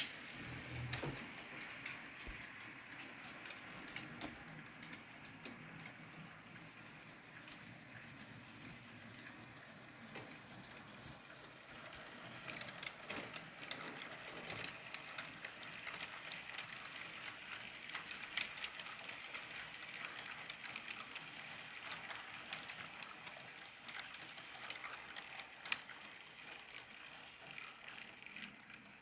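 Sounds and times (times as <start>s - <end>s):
model train cars clattering: 0.0s - 29.0s.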